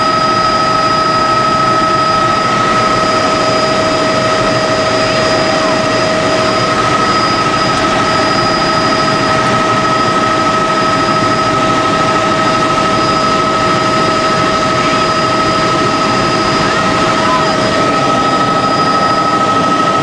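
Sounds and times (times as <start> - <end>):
helicopter drone from inside cabin: 0.0 - 20.0
high whining tones: 0.0 - 20.0.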